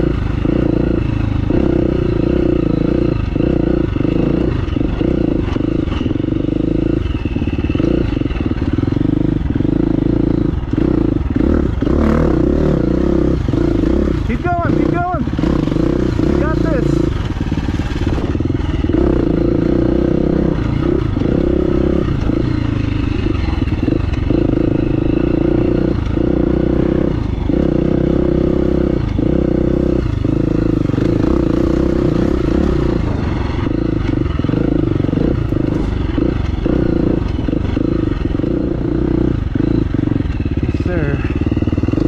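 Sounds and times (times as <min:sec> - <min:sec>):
dirt bike engine revving: 0:00.0 - 0:42.0
clatter from rough trail: 0:00.2 - 0:42.0.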